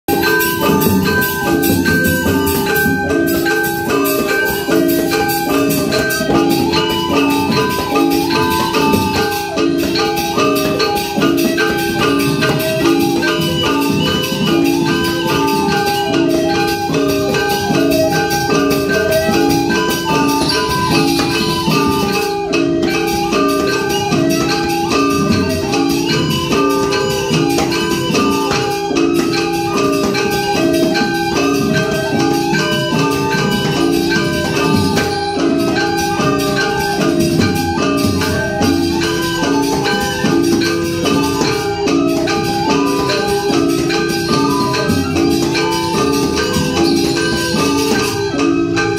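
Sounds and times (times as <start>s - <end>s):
bronze mallet instruments melody: 0.1s - 48.9s
clashing cymbals: 0.1s - 48.9s
two-headed drum: 0.1s - 48.9s.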